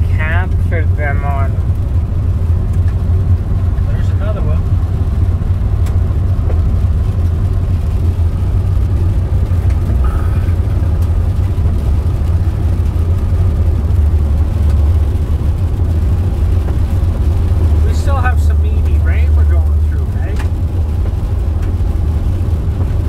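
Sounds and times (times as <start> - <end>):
car road and engine rumble: 0.0 - 23.0
rain hitting car: 0.0 - 23.0.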